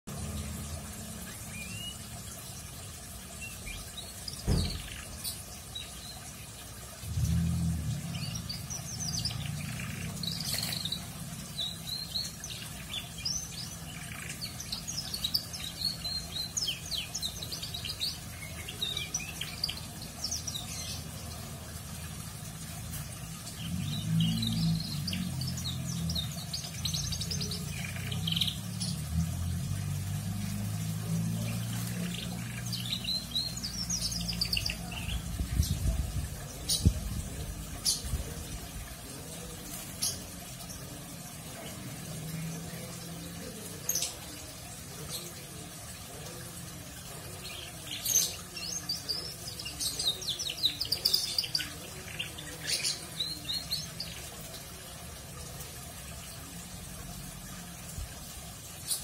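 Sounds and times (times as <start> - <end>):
canary chirping and trilling: 0.1 - 6.4, 7.1 - 45.4, 47.0 - 54.5.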